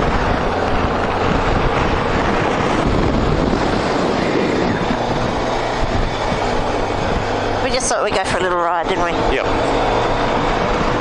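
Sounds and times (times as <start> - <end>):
road noise: 0.0 - 11.0
vehicle engine hum: 0.0 - 11.0
wind rushing over microphone: 0.0 - 11.0.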